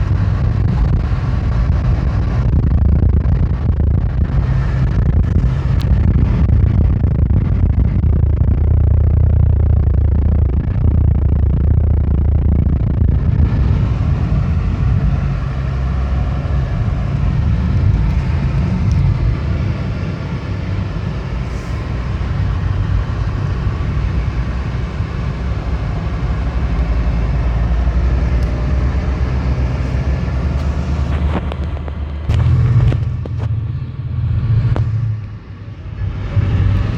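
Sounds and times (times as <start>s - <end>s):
car engine rumbling steadily: 0.0s - 36.9s.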